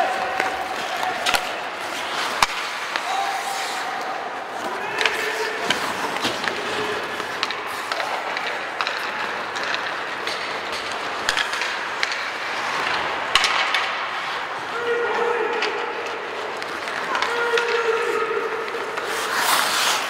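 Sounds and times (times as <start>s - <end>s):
hockey sticks and puck clacking: 0.0s - 20.0s
skate blades scraping ice: 0.0s - 20.0s.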